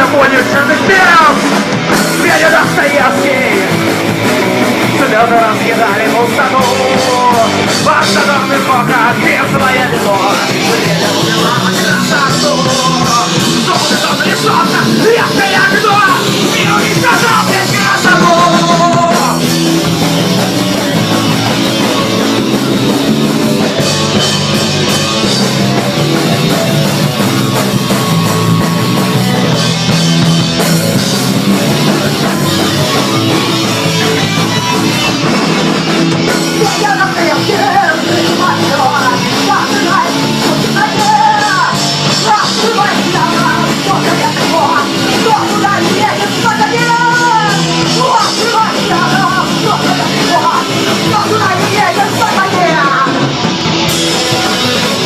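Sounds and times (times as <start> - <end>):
punk rock band playing: 0.0 - 55.0
voice or lead line: 0.0 - 55.0.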